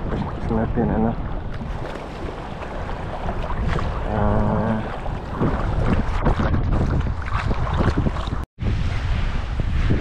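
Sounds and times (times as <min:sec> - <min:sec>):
sea water sloshing: 0:00.0 - 0:08.5
wind buffeting microphone: 0:00.0 - 0:10.0.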